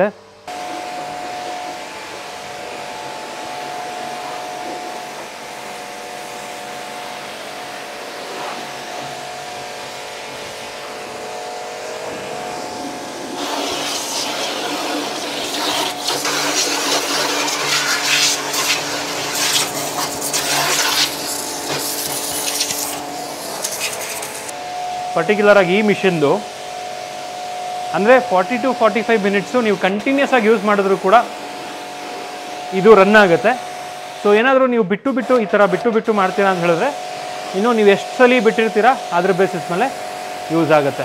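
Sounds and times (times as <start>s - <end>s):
pressure washer motor humming: 0.0s - 41.0s
water jet hissing on car: 0.5s - 24.5s, 28.6s - 34.1s, 35.5s - 41.0s.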